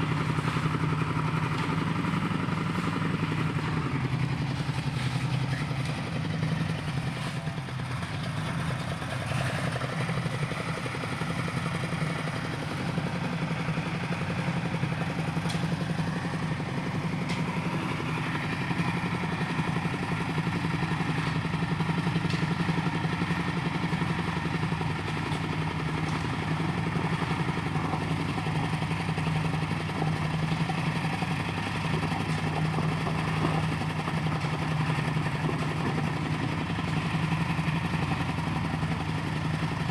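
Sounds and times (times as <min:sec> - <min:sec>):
engine clatter: 0:00.0 - 0:39.9
engine running steadily: 0:00.0 - 0:39.9.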